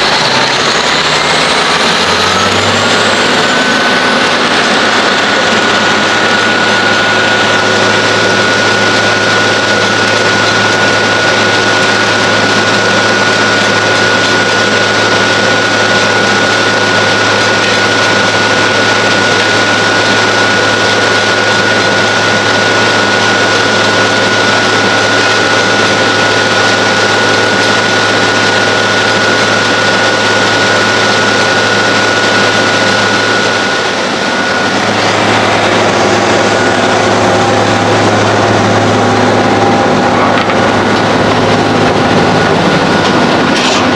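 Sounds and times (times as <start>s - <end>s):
diesel engine drone: 0.0s - 43.9s
high machine whine: 0.0s - 43.9s.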